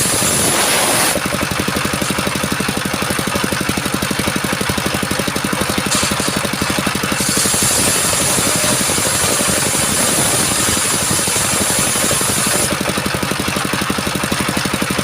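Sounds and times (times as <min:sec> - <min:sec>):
saw blade cutting wood: 0:00.0 - 0:03.7, 0:05.3 - 0:13.8
engine chugging: 0:00.0 - 0:15.0.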